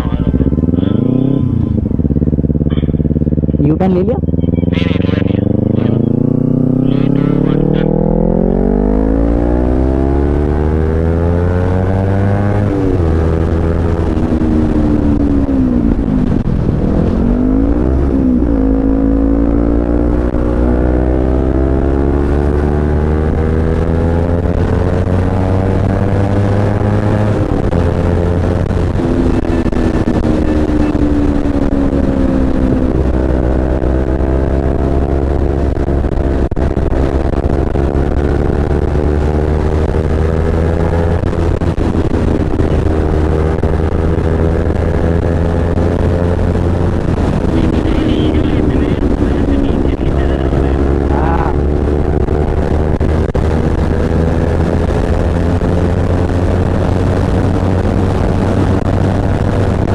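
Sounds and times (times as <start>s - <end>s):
motorcycle engine accelerating: 0.0s - 59.9s
wind noise: 0.0s - 59.9s.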